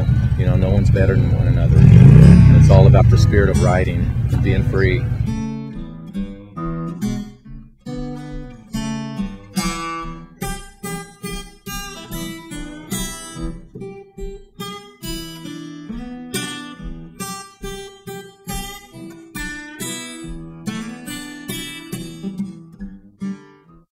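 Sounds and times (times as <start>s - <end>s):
acoustic guitar strumming: 0.0s - 23.9s.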